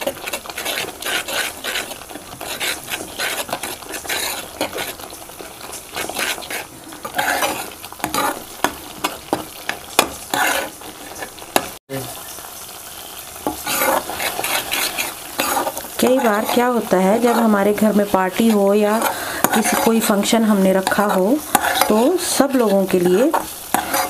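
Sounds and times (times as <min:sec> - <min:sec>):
spatula scraping and stirring gravy: 0:00.0 - 0:24.0
steady sizzle: 0:00.0 - 0:24.0.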